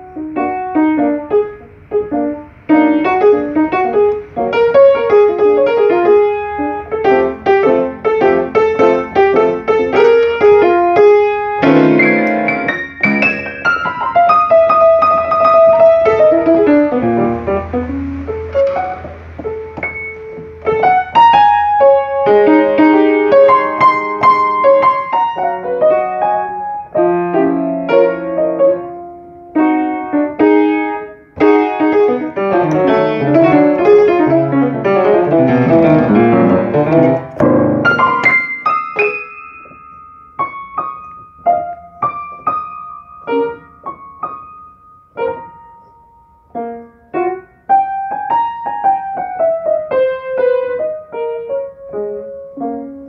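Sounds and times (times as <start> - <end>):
upright piano playing blues: 0.0 - 53.0.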